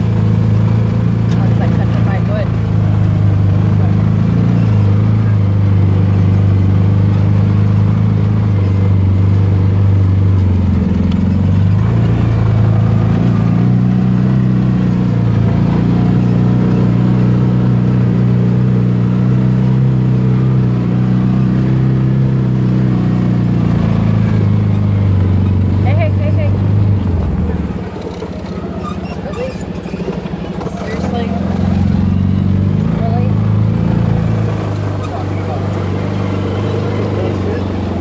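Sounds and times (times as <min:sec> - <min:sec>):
utility vehicle engine running: 0:00.0 - 0:38.0.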